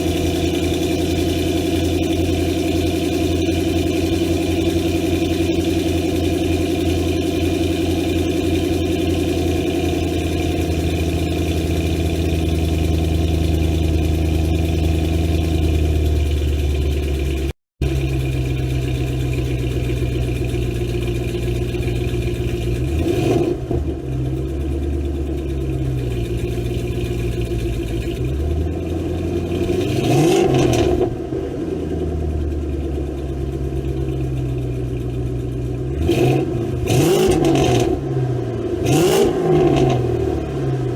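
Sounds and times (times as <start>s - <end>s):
engine revving: 0.0s - 32.6s, 33.9s - 40.9s
car engine idling: 0.0s - 40.9s.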